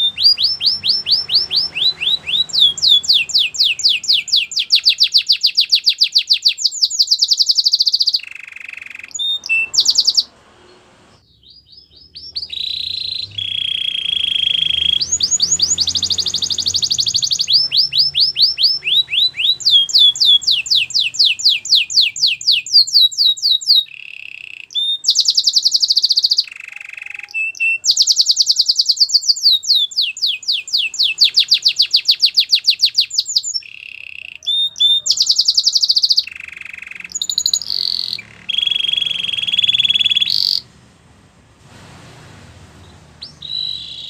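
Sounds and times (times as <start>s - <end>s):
canary singing trills: 0.0s - 40.7s, 42.8s - 44.0s.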